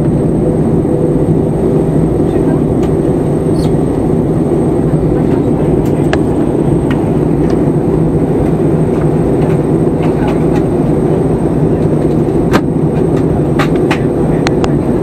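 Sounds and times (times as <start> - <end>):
airliner cabin engine roar: 0.0 - 15.0.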